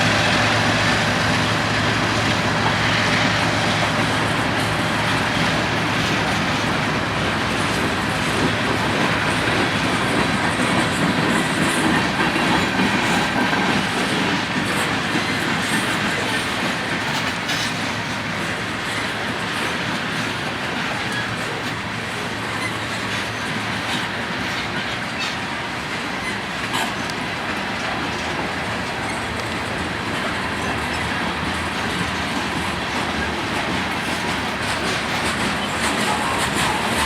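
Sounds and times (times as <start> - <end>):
railroad cars rolling on track: 0.0 - 37.0.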